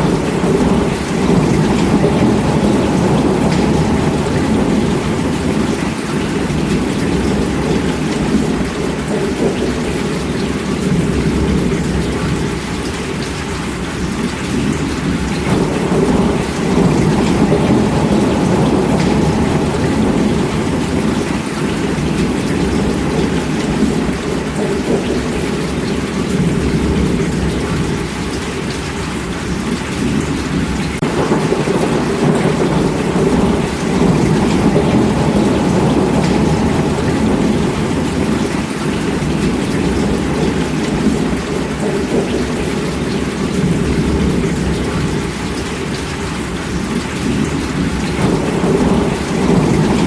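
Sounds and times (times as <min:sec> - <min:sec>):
heavy rainfall: 0:00.0 - 0:50.0
thunder rumbling: 0:00.0 - 0:50.0.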